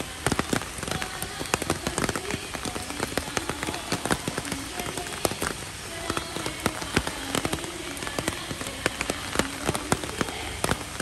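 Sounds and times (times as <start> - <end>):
heavy rain falling: 0.0 - 11.0
sharp raindrop impacts: 0.0 - 11.0.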